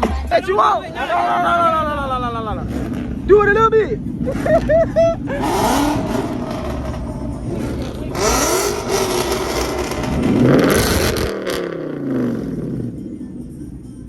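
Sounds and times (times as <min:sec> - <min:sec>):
car engine revving: 0:01.3 - 0:13.9.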